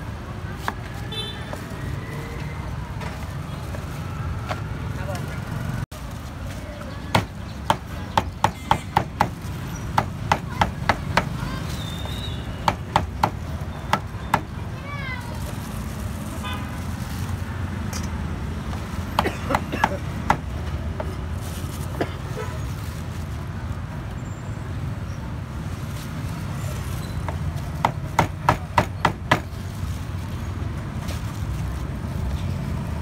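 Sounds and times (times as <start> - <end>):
street traffic hum: 0.0 - 33.0.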